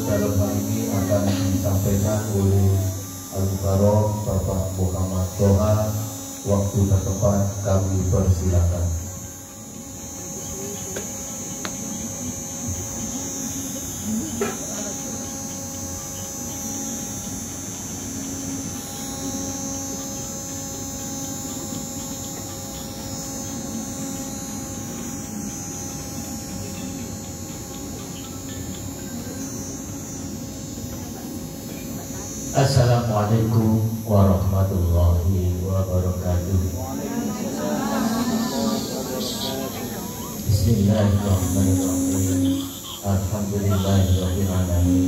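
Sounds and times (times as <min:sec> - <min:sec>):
electrical mains hum with hiss: 0:00.0 - 0:45.0.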